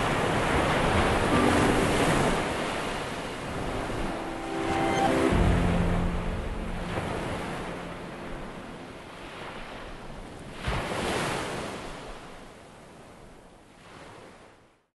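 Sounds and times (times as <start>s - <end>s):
wave breaking: 0.0s - 12.4s
waves washing: 0.0s - 14.6s.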